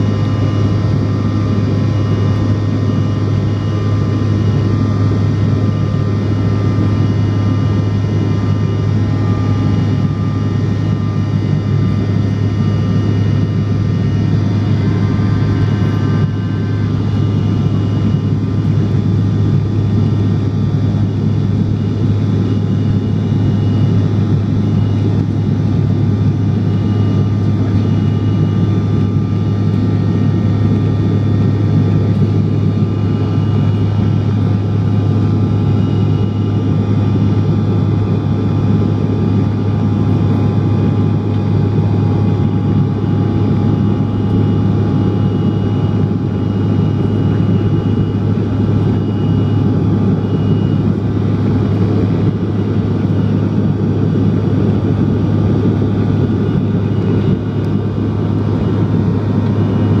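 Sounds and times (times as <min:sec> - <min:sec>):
faint steady whining tones: 0:00.0 - 1:00.0
jet engine drone in cabin: 0:00.0 - 1:00.0.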